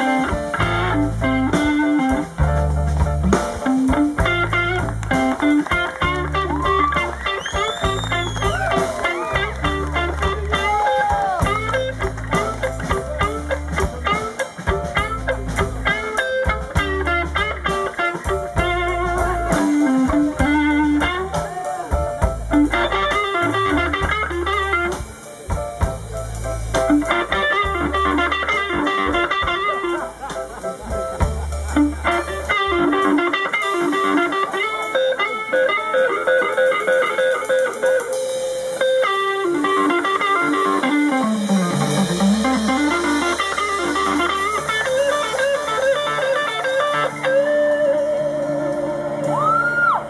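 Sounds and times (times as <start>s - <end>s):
bass guitar: 0.0s - 50.0s
electric guitar lines: 0.0s - 50.0s
live blues band: 0.0s - 50.0s.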